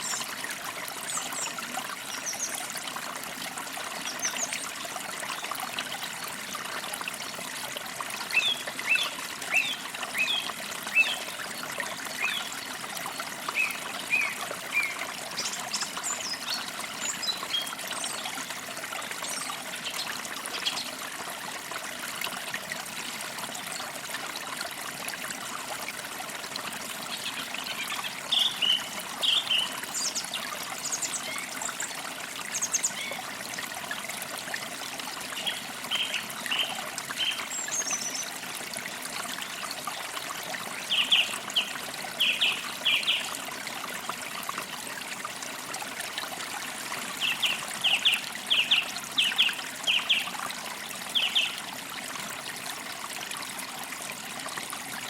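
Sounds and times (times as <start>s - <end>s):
creek water trickling: 0.0s - 55.0s.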